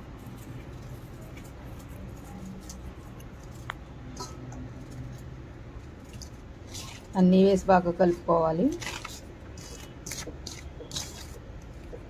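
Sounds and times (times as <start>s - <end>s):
fingers rustling through flour: 0.0s - 3.9s, 4.7s - 12.0s
low steady hum: 0.0s - 12.0s.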